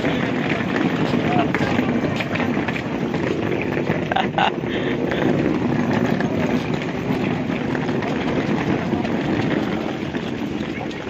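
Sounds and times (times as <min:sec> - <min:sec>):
footsteps: 0:00.0 - 0:11.0
suitcase wheels rattling on gravel: 0:00.0 - 0:11.0.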